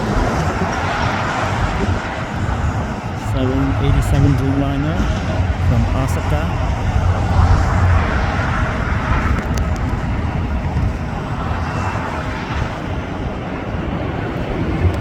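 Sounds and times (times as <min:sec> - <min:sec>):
distant vehicle rumble: 0:00.0 - 0:15.0.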